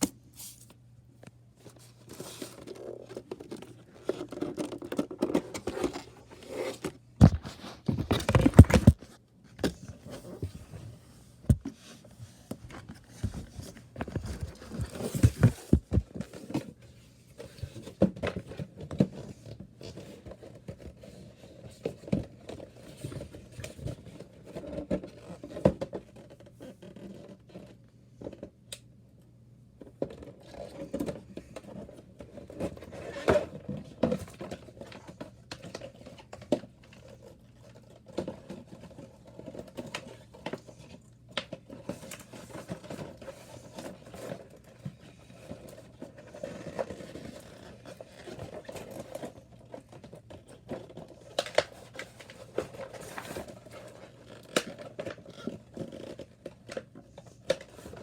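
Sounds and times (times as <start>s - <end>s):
packaging rustling and scraping: 0.0s - 0.8s, 1.6s - 28.4s, 30.0s - 58.0s.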